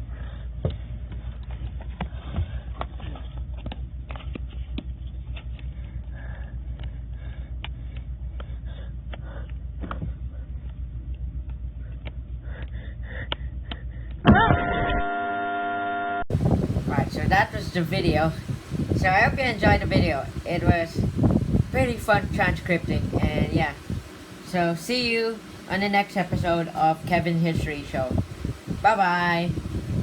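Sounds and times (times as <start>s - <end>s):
steady low rumble: 0.0s - 14.6s, 16.3s - 30.0s.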